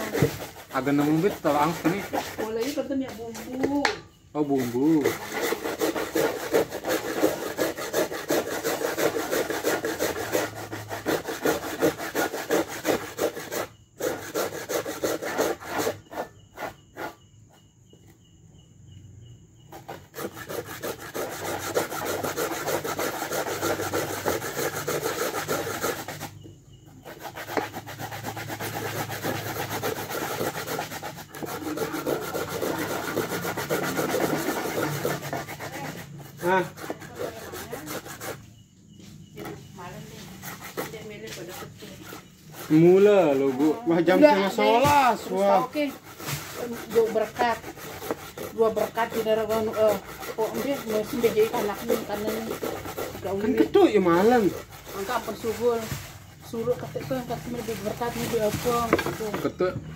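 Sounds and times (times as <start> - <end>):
coconut grating rasping strokes: 0.0 - 17.7, 19.6 - 59.9.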